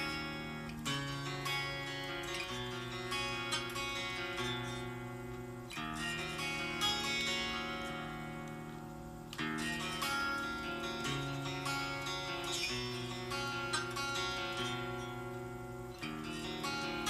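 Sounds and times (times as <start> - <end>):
guitar strummed chords: 0.0 - 17.0.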